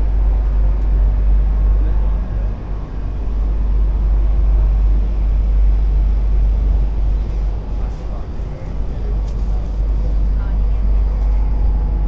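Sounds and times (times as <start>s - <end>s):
train carriage rumbling: 0.0s - 12.0s.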